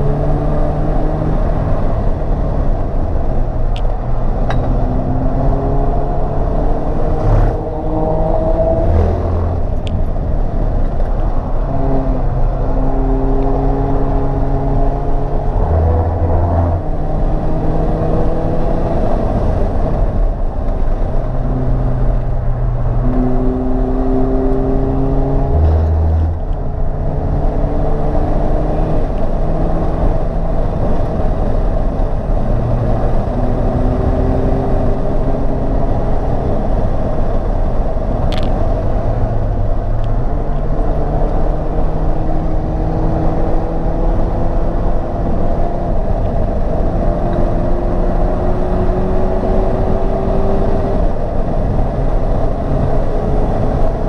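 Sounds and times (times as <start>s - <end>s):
car engine revving through gears: 0.0s - 54.0s
road and wind noise: 0.0s - 54.0s.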